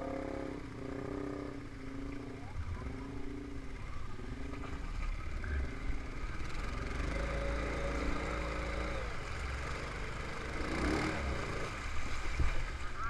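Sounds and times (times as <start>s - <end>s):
quad bike engine running: 0.0s - 13.0s
water splashing: 0.0s - 13.0s.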